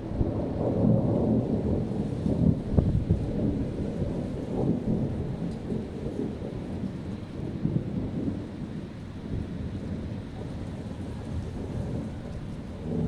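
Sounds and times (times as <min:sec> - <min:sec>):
rain falling: 0:00.0 - 0:13.0
thunder rumbling: 0:00.0 - 0:13.0.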